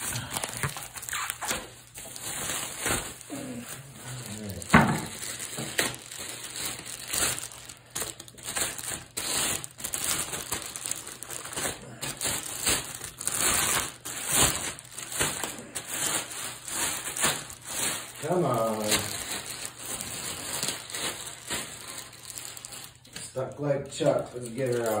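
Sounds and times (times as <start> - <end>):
plastic wrapping crinkling: 0.0 - 25.0.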